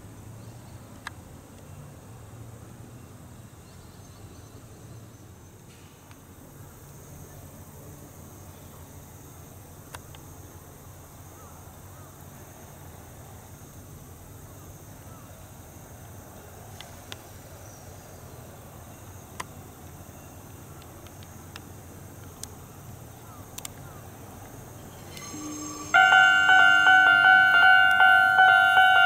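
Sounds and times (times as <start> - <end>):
crickets chirring: 3.0 - 29.0.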